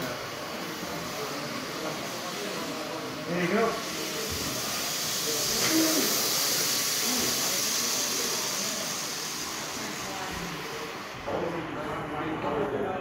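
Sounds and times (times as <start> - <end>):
faint indistinct voices: 0.0 - 13.0
room ambience hiss: 0.0 - 13.0.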